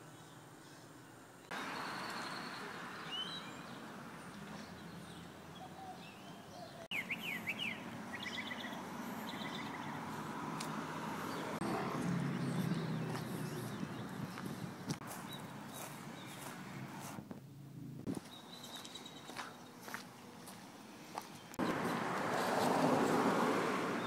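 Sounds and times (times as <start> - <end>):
outdoor background hiss: 0.0 - 12.9, 13.8 - 24.0
birds chirping: 0.0 - 17.2, 18.0 - 23.3.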